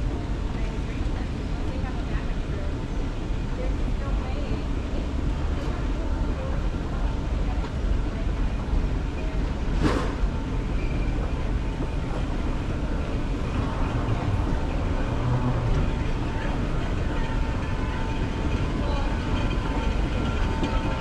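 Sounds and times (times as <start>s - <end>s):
vehicle rumbling: 0.0s - 21.0s.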